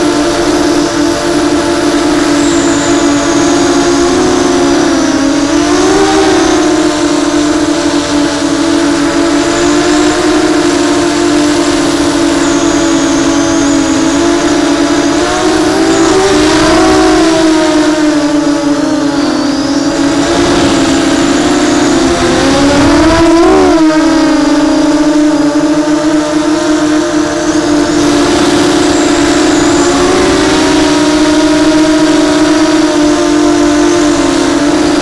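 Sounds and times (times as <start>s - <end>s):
quadcopter motors buzzing whine: 0.0s - 35.0s.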